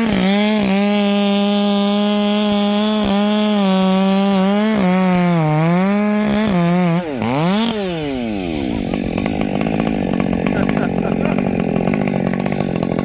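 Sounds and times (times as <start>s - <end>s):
chainsaw running in a cut: 0.0s - 13.0s.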